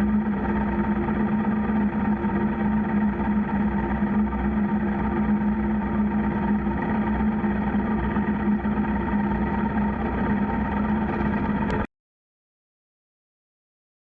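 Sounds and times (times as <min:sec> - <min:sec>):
motorcycle engine droning: 0:00.0 - 0:11.9.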